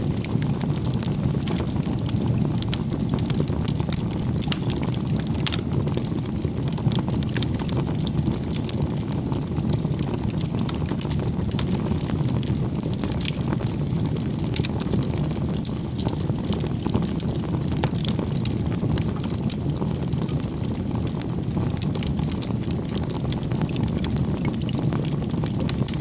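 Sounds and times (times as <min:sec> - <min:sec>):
bonfire crackling: 0:00.0 - 0:26.0.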